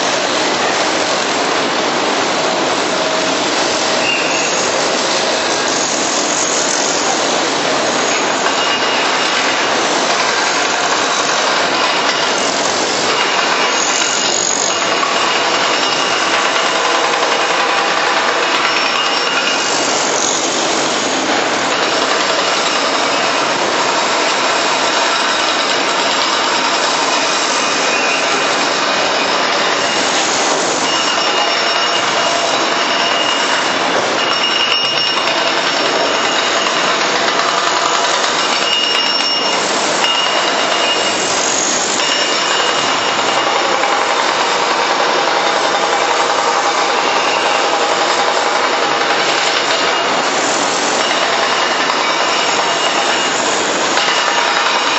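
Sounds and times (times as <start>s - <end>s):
excavator diesel engine and hydraulics: 0.0s - 54.9s.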